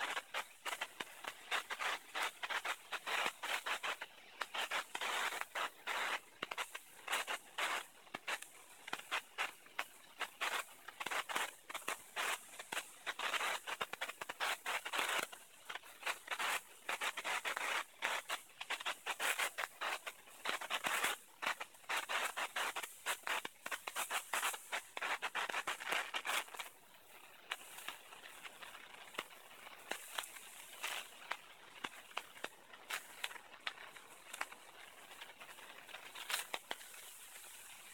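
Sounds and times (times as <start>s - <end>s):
fireworks crackling: 0.0s - 37.9s.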